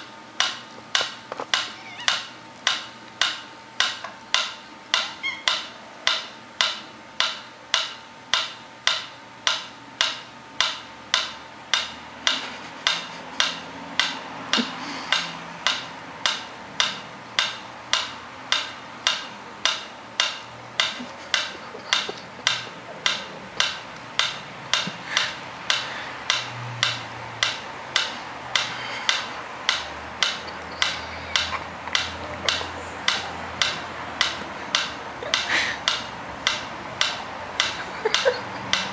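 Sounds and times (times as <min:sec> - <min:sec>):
steady ticking: 0:00.0 - 0:38.9.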